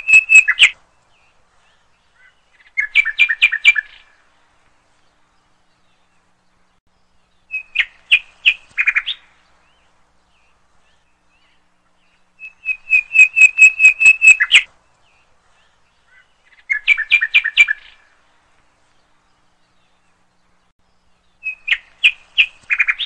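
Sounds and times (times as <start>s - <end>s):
songbird chirping: 0.0s - 23.0s.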